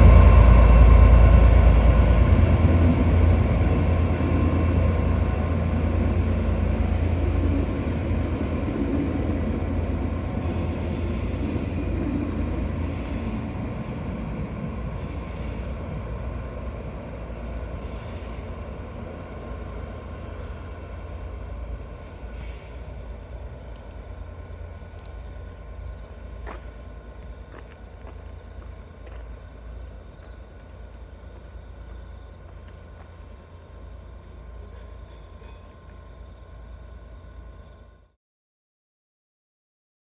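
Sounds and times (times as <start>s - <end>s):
train rumbling by: 0.0s - 38.2s.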